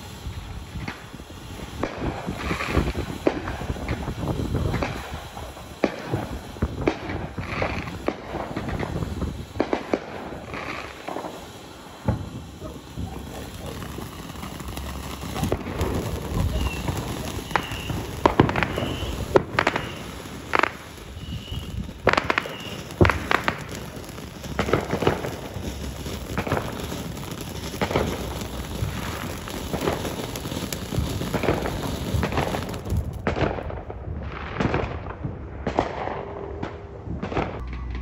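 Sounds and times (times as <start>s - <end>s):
fountain firework hissing: 0.0s - 33.3s
firework crackles and pops: 0.0s - 38.0s.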